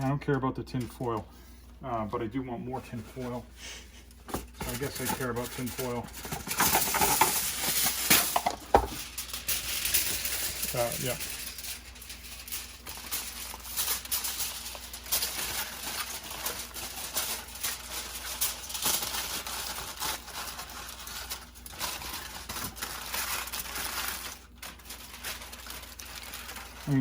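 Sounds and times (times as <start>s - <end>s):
aluminium foil crinkling: 2.0s - 27.0s.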